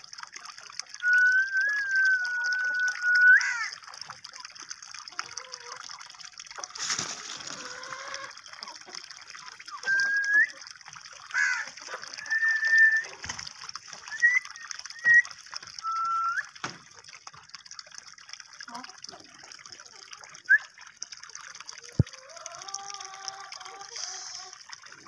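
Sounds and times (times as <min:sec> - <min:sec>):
water trickling from a pipe: 0:00.0 - 0:25.0.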